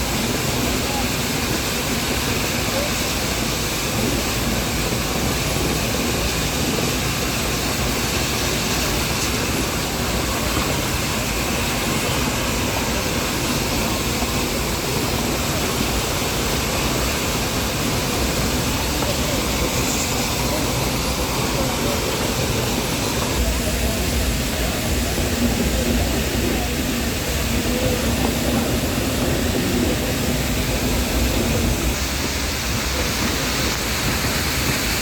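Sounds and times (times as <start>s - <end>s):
train rumbling along: 0.0s - 35.0s.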